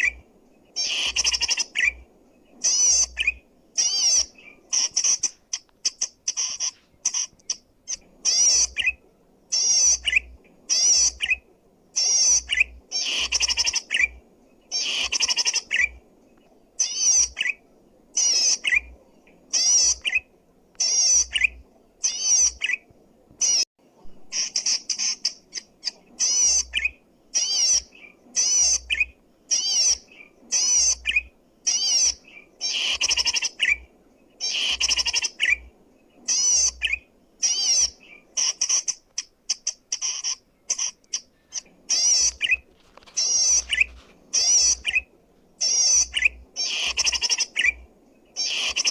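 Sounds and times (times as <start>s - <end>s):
bird buzzy chattering calls: 0.8s - 2.0s, 2.6s - 16.0s, 18.2s - 20.2s, 24.3s - 48.9s.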